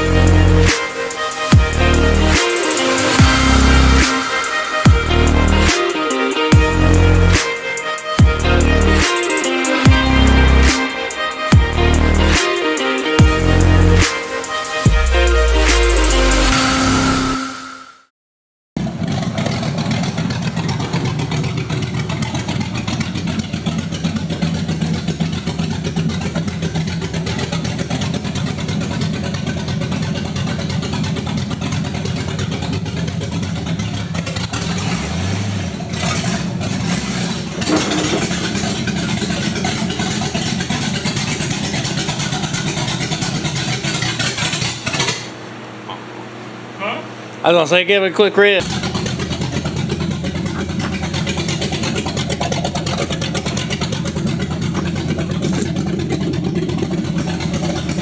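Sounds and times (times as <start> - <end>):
car engine idling: 0.0 - 16.5, 18.8 - 58.0.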